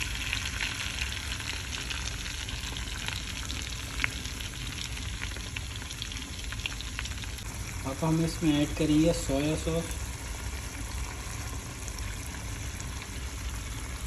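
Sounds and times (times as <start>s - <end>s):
sauce sizzling in butter: 0.0s - 14.0s.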